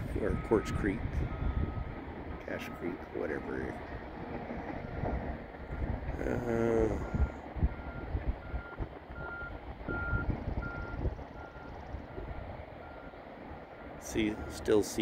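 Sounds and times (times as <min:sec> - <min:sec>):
distant reversing alarm beeping: 0:00.0 - 0:15.0
wind rumbling on microphone: 0:00.0 - 0:15.0.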